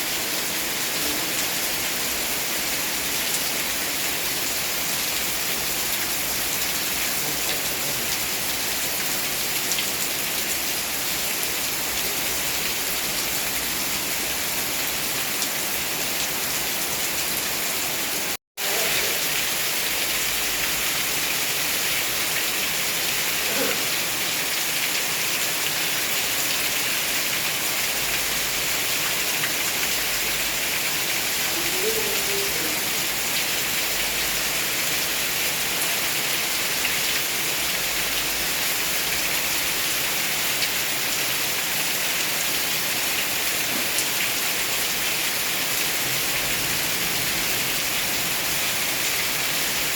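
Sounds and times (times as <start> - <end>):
steady rain pattering: 0.0 - 49.9.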